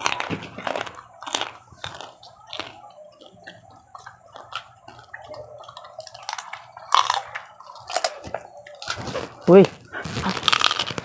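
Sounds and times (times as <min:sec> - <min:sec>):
crunching crispy food: 0:00.0 - 0:03.3, 0:04.3 - 0:11.0.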